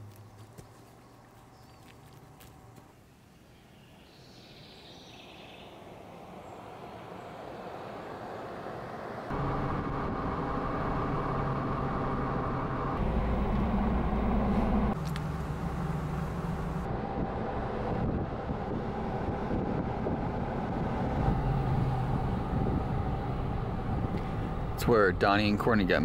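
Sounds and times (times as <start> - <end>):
car engine and tyre hum: 0.0 - 26.0.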